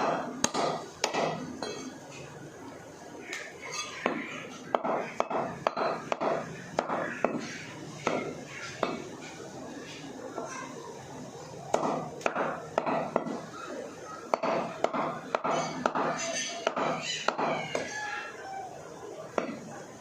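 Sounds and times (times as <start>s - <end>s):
people talking: 1.7s - 14.9s, 15.5s - 20.0s.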